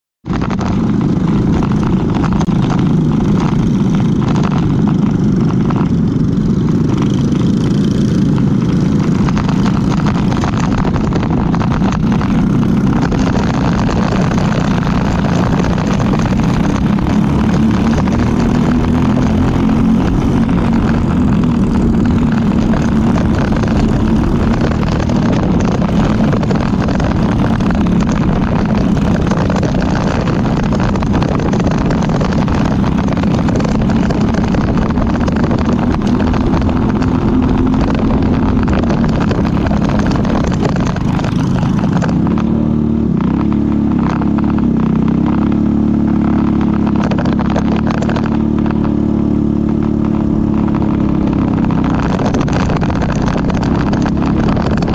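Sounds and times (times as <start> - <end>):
other karts: 0.2 - 54.9
kart engine running hard: 0.3 - 54.9.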